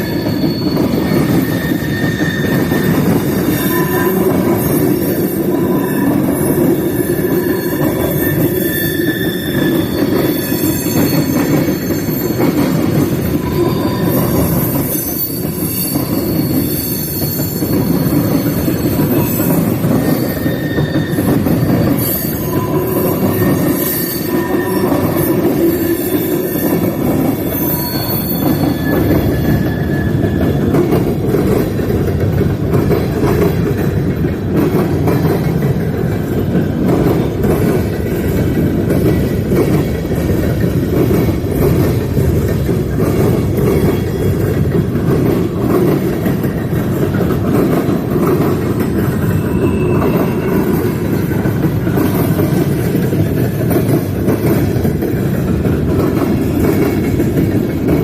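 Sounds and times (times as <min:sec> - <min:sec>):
freight train cars rumbling: 0:00.0 - 0:58.0
steel wheels squealing: 0:00.0 - 0:58.0.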